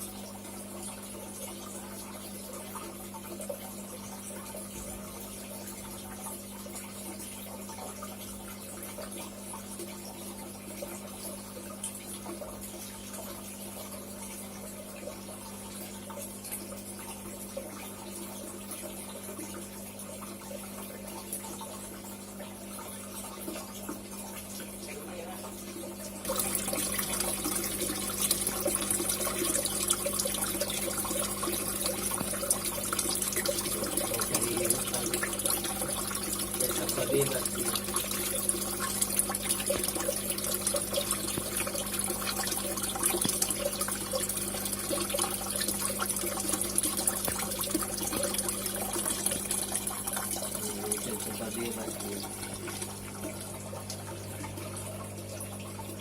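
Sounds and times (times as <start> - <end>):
low electrical hum: 0.0 - 56.0
water running and splashing: 0.0 - 56.0.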